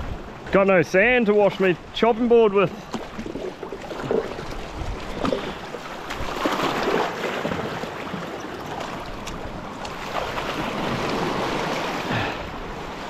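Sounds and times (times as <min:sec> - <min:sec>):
small waves sloshing over rocks: 0:00.1 - 0:13.0.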